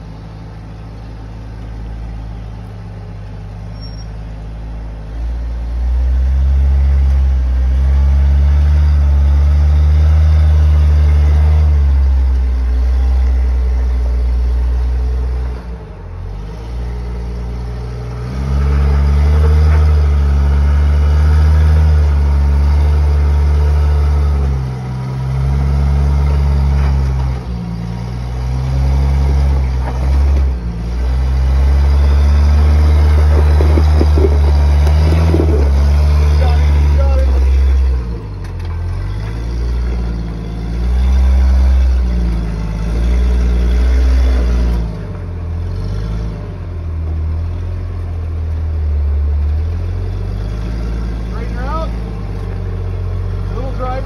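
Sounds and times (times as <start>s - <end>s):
engine revving on rough trail: 0.0s - 54.0s.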